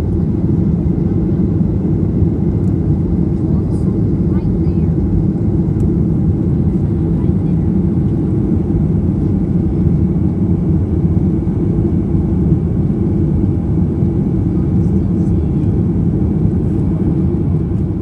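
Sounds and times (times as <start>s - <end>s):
jet engines droning: 0.0s - 18.0s.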